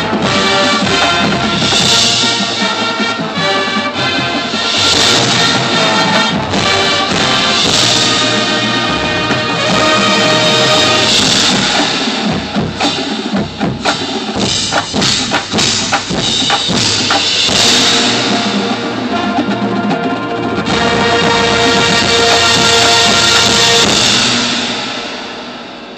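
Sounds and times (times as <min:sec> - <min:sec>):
held brass chords: 0:00.0 - 0:12.8, 0:17.2 - 0:25.7
rapid drum hits: 0:00.0 - 0:20.0, 0:20.6 - 0:25.9
marching band playing: 0:00.0 - 0:25.9.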